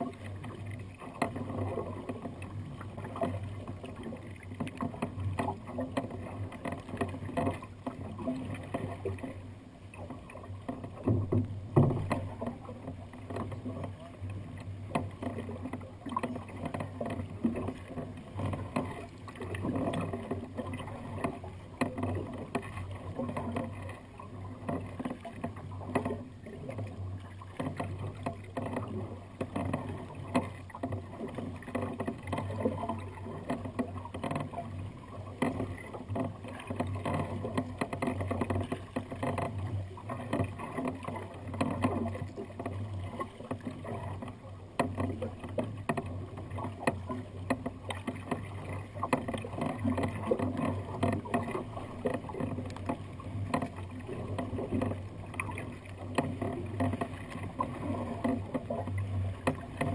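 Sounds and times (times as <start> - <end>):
water lapping against kayak hull: 0.0 - 59.9.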